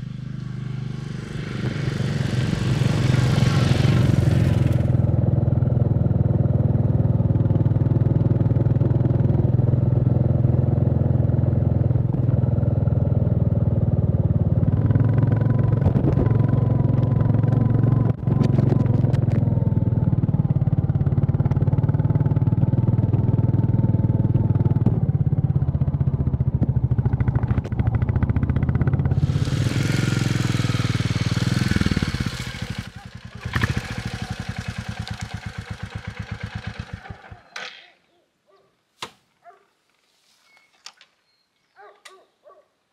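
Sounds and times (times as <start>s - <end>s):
motorcycle engine running: 0.0s - 37.6s.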